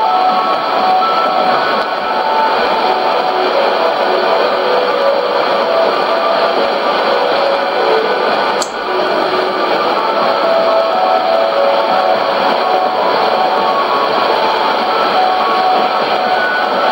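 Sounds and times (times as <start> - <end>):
radio music melody: 0.0 - 16.9
static crackle: 0.0 - 16.9
static hiss: 0.0 - 16.9.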